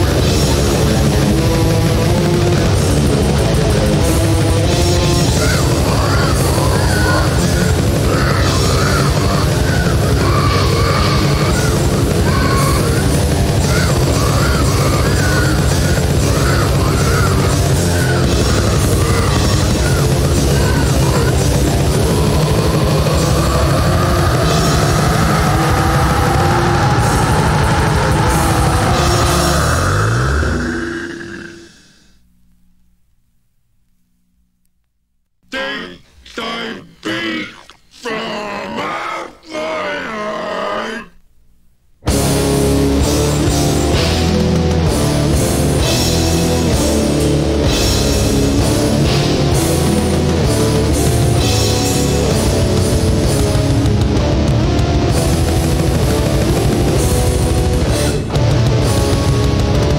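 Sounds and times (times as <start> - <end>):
drum kit: 0.0 - 30.5, 42.1 - 59.9
death metal music: 0.0 - 31.9, 42.1 - 59.9
distorted guitars: 0.0 - 32.2, 42.0 - 59.9.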